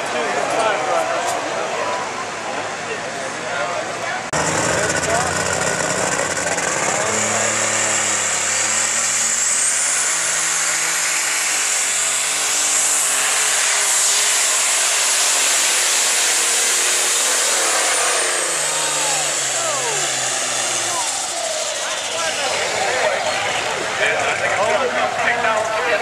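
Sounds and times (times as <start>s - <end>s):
diesel engine at full power: 0.0s - 26.0s
high turbo whine: 4.3s - 25.6s.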